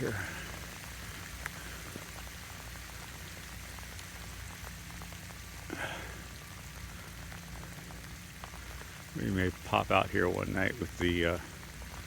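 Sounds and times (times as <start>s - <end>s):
water dripping on ice: 0.0s - 12.0s.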